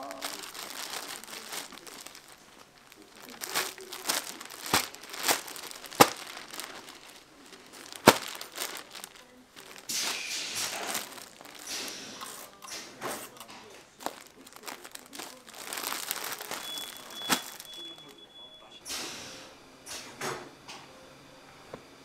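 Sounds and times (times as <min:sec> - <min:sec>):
plastic bag crinkling: 0:00.0 - 0:18.2.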